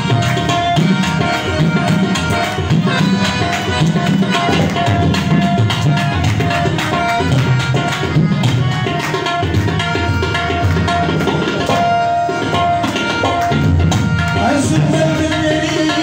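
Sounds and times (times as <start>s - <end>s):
harmonium melody: 0.0s - 16.0s
tabla drumming: 0.0s - 16.0s.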